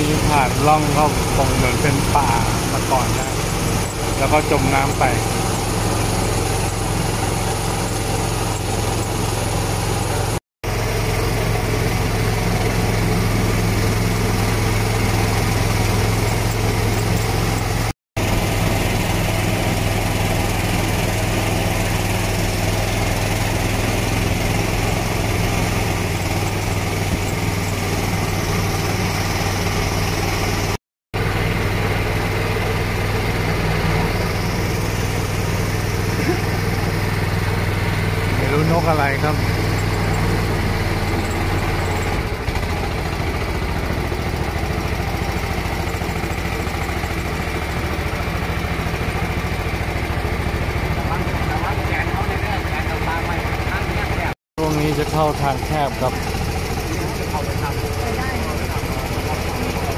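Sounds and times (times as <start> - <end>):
motorboat engine humming: 0.0 - 59.9.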